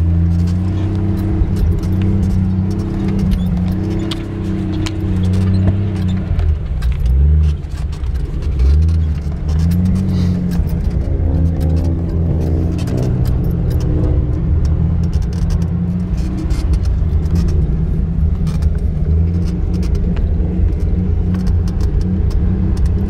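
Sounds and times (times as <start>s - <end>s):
engine running under load: 0.0s - 23.0s
interior rattles and clicks: 0.0s - 23.0s.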